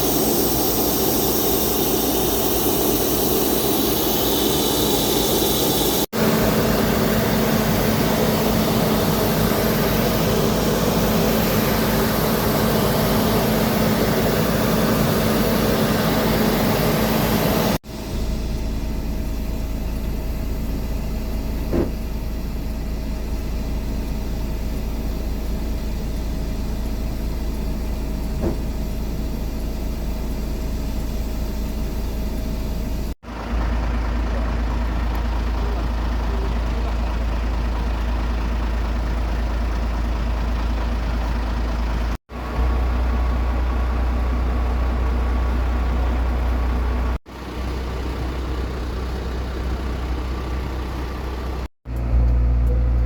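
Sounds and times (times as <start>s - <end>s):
aircraft engines droning: 0.0s - 52.2s.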